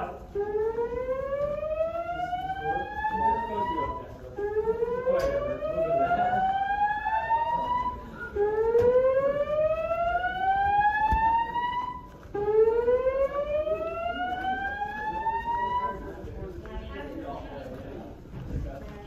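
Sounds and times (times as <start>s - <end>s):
fire alarm whoop tone: 0.0s - 16.1s.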